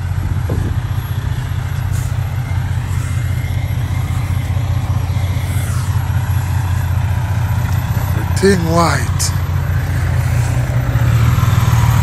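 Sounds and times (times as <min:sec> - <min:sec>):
diesel trucks idling: 0:00.0 - 0:12.0.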